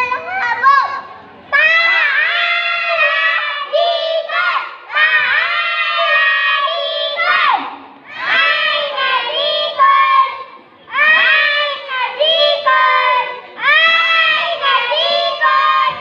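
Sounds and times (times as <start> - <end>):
children chanting in unison: 1.6 - 16.0.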